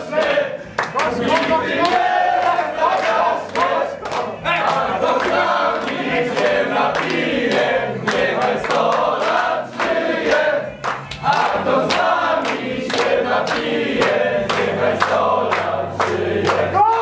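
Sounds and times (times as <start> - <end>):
group of people singing: 0.0 - 17.0
people clapping in time: 0.0 - 17.0.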